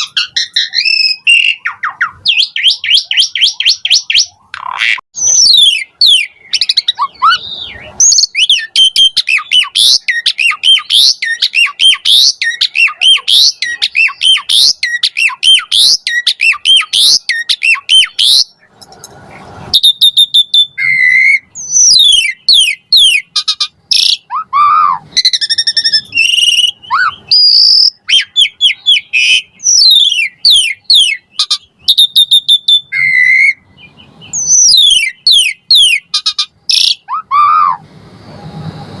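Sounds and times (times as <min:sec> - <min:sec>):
starling singing: 0:00.0 - 0:18.7, 0:19.3 - 0:37.8.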